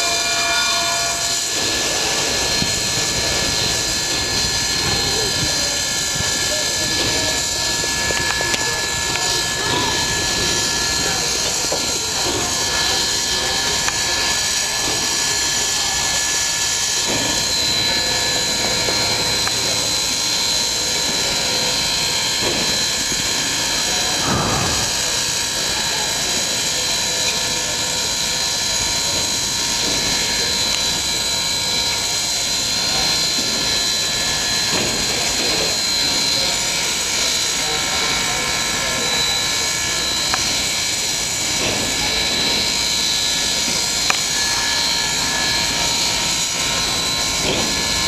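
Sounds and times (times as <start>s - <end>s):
steam locomotive hissing: 0.0s - 48.0s
thin high whine: 0.0s - 48.0s.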